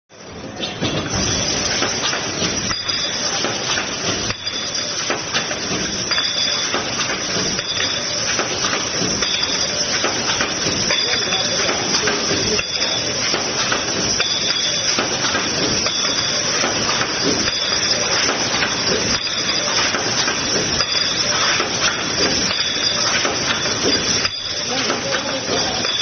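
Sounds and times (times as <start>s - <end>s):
pipe cutting machine running: 1.4s - 26.0s.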